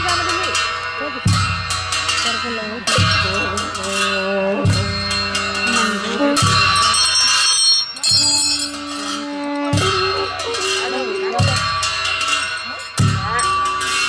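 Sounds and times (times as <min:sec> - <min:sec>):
jingling bell-like percussion: 0:00.0 - 0:14.0
low drum strokes: 0:00.0 - 0:14.0
wavering melody: 0:00.0 - 0:14.0.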